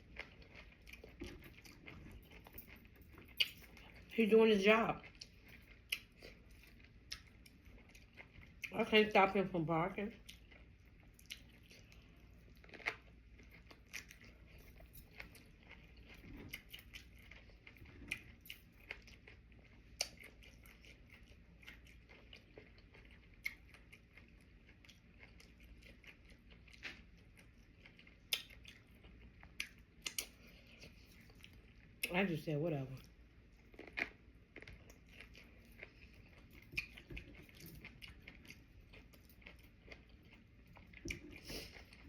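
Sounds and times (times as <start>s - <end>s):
chewing and mouth sounds: 0.0s - 4.2s, 4.9s - 8.8s, 10.1s - 32.2s, 32.9s - 42.0s
low steady hum: 0.0s - 42.0s.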